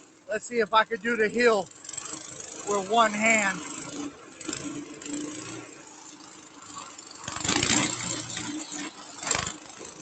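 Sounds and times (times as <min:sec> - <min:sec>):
trail bike engine climbing: 0:00.0 - 0:10.0.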